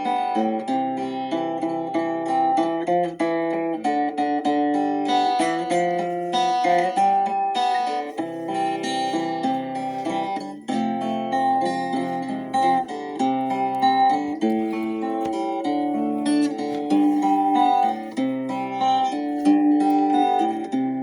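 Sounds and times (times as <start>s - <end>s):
acoustic guitar picking notes: 0.0s - 21.0s.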